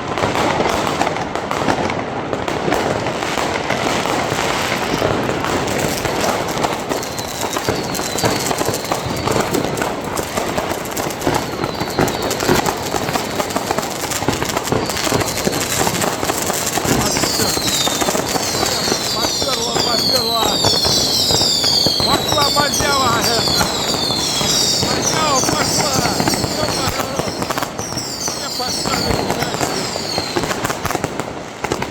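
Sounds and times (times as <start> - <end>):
fireworks and firecrackers banging: 0.0 - 31.9
falling firework whistles: 4.0 - 31.9.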